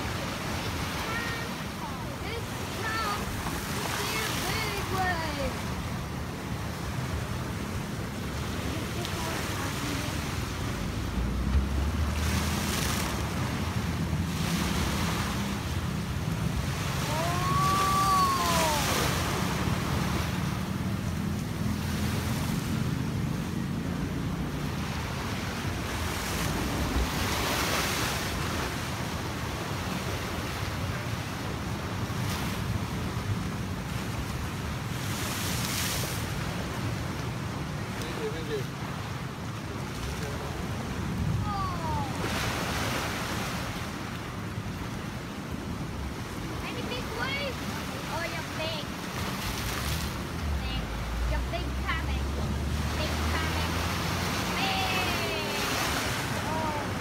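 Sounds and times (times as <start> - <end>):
waves surging against a seawall: 0.0 - 57.0.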